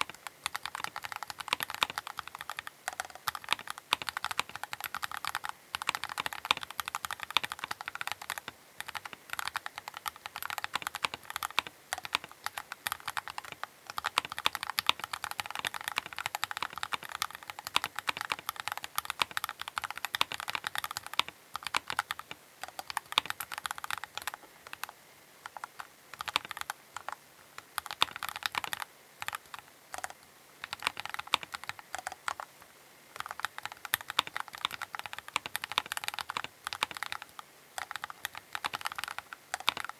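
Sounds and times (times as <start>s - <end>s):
mechanical keyboard typing: 0.0s - 32.5s, 33.2s - 39.9s.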